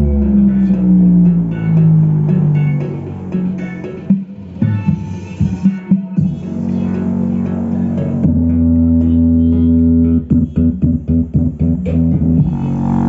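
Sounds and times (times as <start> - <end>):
sustained bass notes: 0.0 - 5.6, 6.2 - 13.0.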